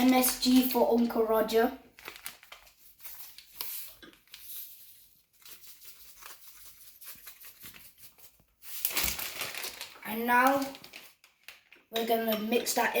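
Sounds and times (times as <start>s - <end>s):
plastic packet crinkling: 0.0s - 4.7s, 5.4s - 11.9s.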